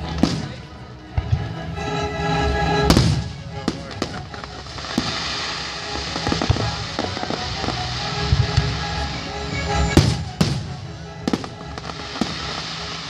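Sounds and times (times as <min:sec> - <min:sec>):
fireworks bangs: 0:00.0 - 0:00.7, 0:02.9 - 0:13.0
fireworks crackles: 0:00.0 - 0:00.7, 0:02.9 - 0:13.0.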